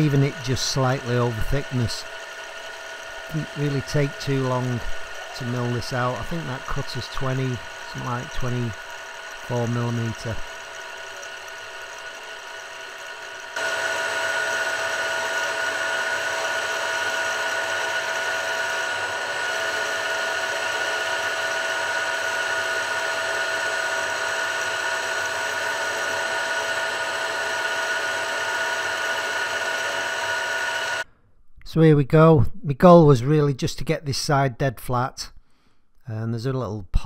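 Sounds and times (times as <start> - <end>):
milling machine cutting metal: 0.0 - 31.0.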